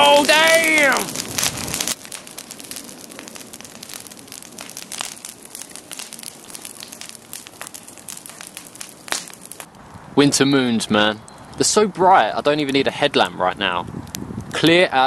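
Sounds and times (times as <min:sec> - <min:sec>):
burning wood popping: 0:00.0 - 0:10.1, 0:11.0 - 0:15.0
campfire crackling and hissing: 0:00.0 - 0:15.0.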